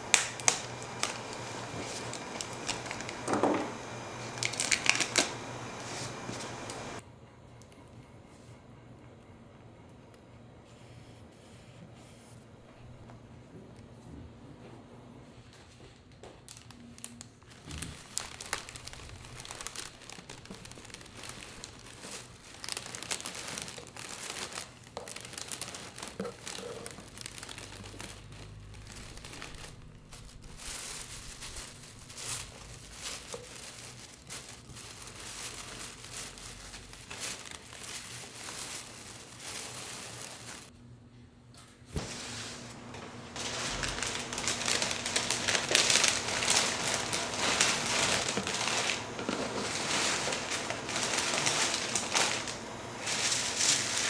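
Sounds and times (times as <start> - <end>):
wrapping material crinkling: 0.0 - 7.0, 16.4 - 40.7, 42.0 - 54.0.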